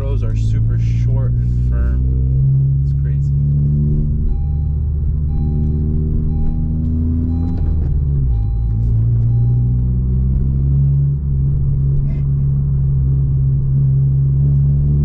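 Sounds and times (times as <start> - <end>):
car engine accelerating: 0.0 - 15.0
road rumble: 0.0 - 15.0.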